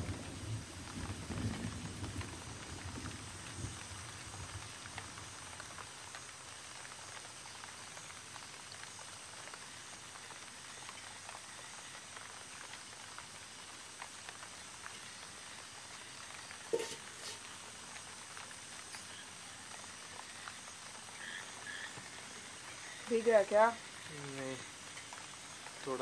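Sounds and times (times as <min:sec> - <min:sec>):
light rain patter: 0:00.0 - 0:26.0
small drips and ticks: 0:00.0 - 0:26.0.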